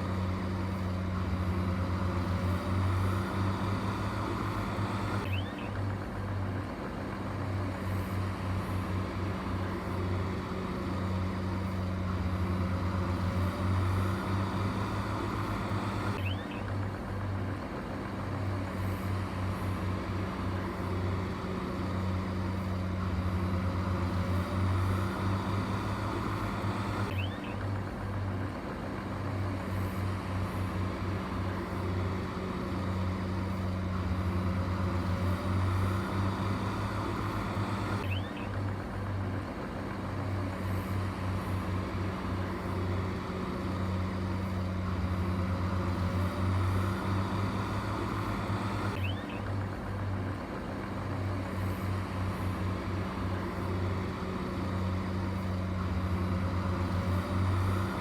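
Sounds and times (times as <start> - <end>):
heavy machinery engine drone: 0.0 - 58.0.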